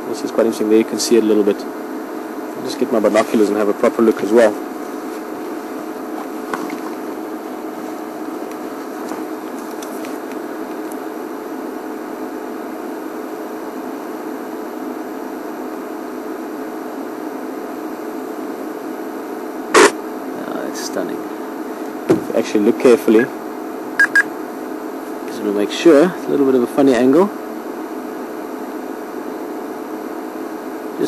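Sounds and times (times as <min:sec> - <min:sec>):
mechanical hum with hiss: 0:00.0 - 0:31.0.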